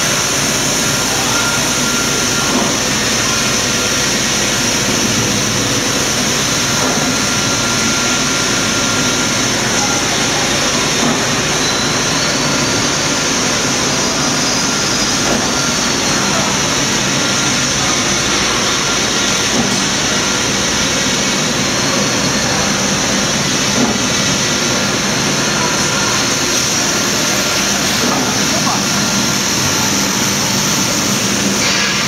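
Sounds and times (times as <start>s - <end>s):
machine running: 0.0s - 32.0s.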